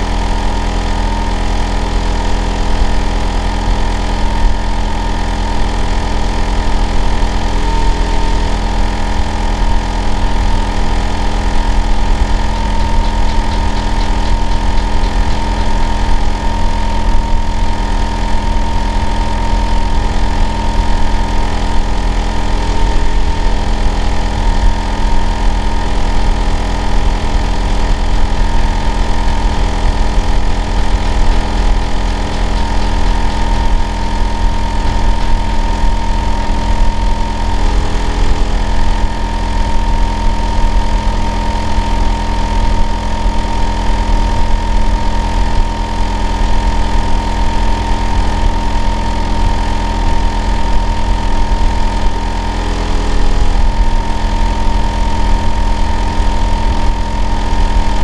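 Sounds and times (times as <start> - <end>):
air conditioner unit humming: 0.0 - 58.0.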